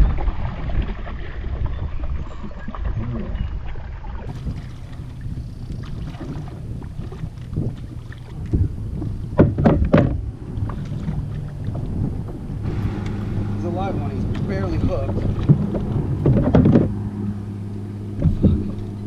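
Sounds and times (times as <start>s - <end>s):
wind noise on microphone: 0.0s - 17.5s, 18.1s - 19.0s.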